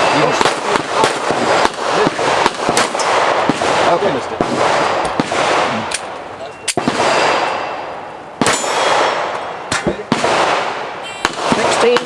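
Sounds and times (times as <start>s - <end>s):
pistol shots echoing: 0.0s - 12.0s.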